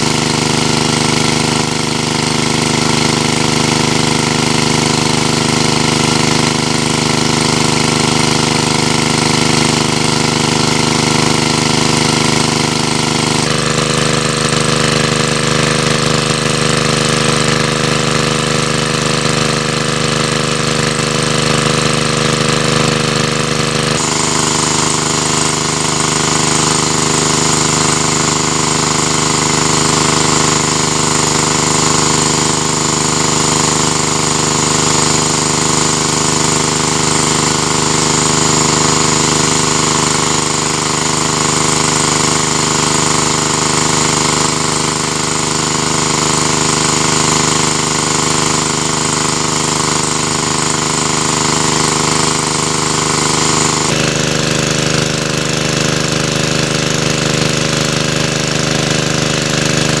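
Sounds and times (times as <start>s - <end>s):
engine-driven water pump running: 0.0s - 60.0s.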